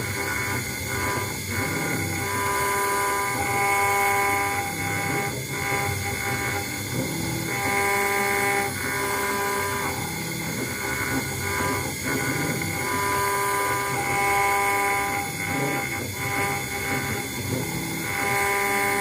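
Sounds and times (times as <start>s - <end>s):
router spindle whine engraving metal: 0.0s - 19.0s.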